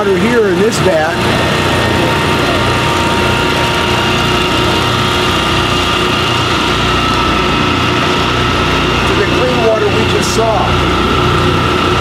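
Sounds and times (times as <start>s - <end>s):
vacuum pump motor humming: 0.0s - 12.0s.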